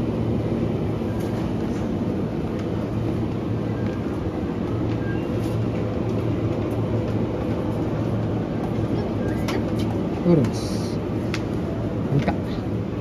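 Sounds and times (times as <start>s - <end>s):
supermarket background hum: 0.0s - 13.0s.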